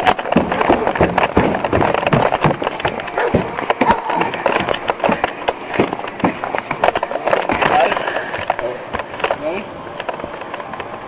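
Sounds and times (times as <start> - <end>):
footsteps on wooden boards: 0.0 - 9.4.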